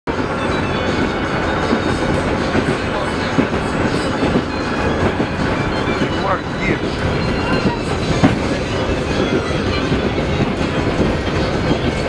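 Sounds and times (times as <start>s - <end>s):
train rumbling and rattling: 0.1s - 12.0s.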